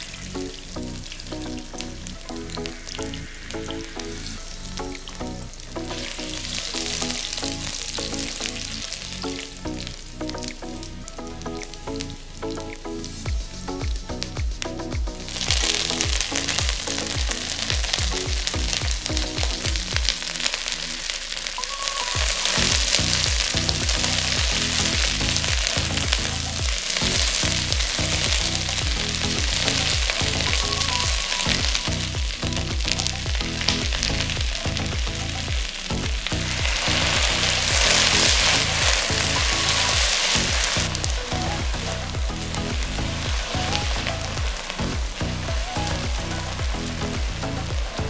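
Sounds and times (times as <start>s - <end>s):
vegetables sizzling in a wok: 0.0s - 11.2s, 15.2s - 48.0s
background music with a beat: 0.0s - 20.7s, 21.6s - 48.0s.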